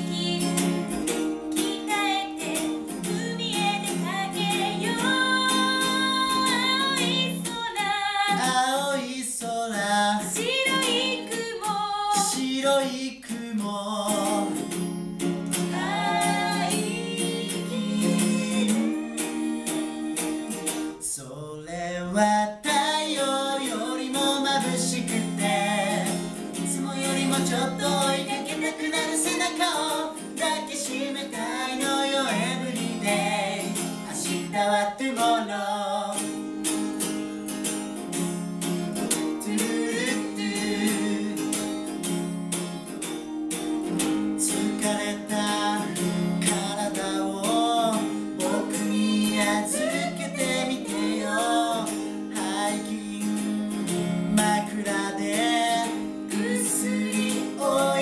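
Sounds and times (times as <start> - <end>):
man and woman singing duet: 0.0 - 14.7, 15.6 - 36.4, 39.2 - 41.8, 44.4 - 58.0
strummed acoustic guitar: 0.0 - 58.0.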